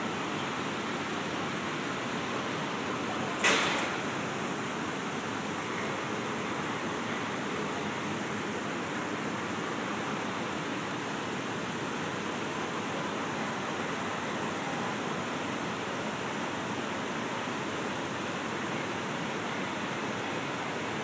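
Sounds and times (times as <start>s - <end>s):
rush of falling water: 0.0s - 21.0s.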